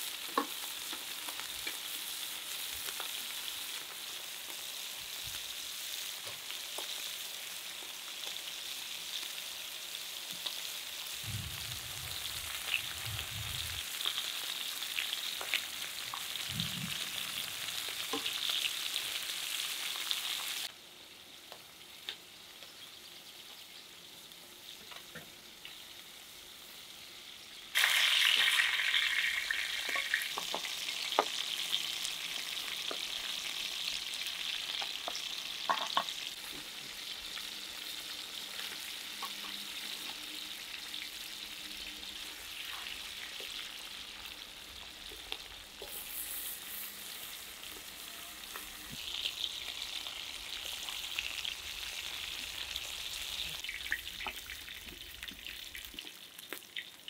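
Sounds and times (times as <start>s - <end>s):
meat sizzling in a pan: 0.0s - 57.0s.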